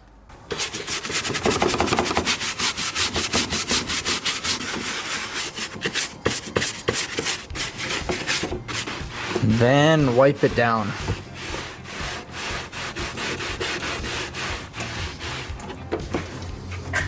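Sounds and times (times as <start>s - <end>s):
scratchy rubbing on felt pad: 0.5s - 16.4s.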